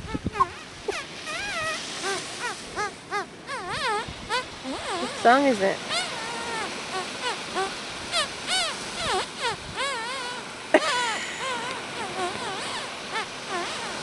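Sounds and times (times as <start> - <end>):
dog whining: 0.3 - 5.2, 5.9 - 14.0.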